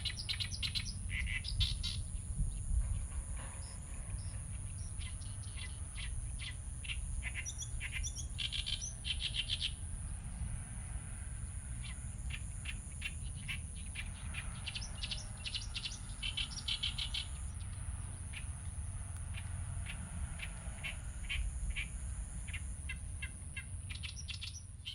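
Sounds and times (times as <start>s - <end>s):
small birds chirping: 0.0s - 10.4s, 11.2s - 24.9s
steady low rumble: 0.0s - 24.8s.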